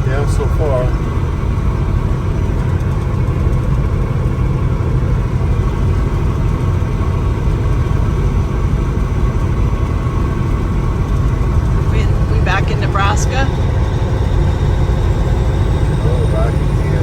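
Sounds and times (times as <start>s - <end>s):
engine drone: 0.0s - 17.0s
road noise: 0.0s - 17.0s.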